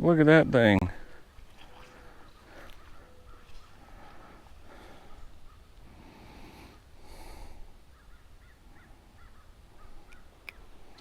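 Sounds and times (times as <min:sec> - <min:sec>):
birds chirping: 0:00.5 - 0:11.0.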